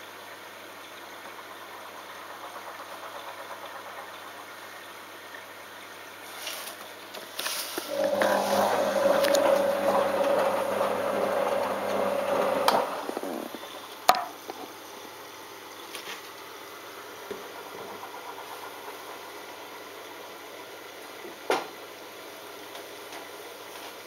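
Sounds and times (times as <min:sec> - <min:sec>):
washing machine whine: 0:00.0 - 0:24.0.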